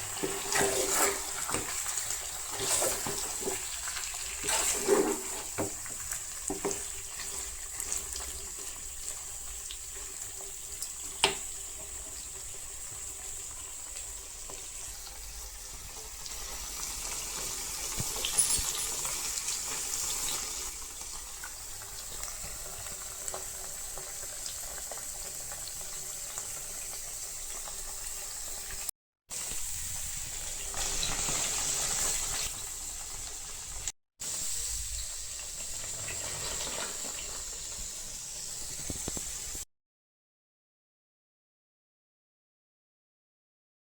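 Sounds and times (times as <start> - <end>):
chicken sizzling in oil: 0.0 - 39.7.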